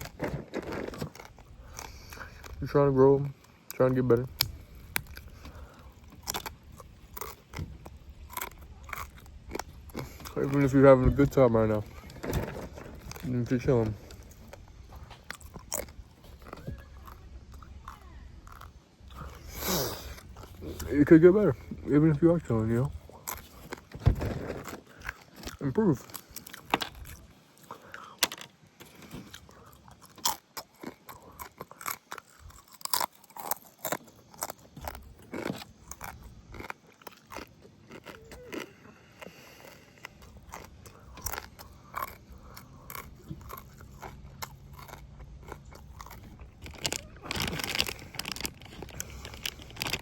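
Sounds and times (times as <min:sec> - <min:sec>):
person chewing chicken: 0:00.0 - 0:50.0.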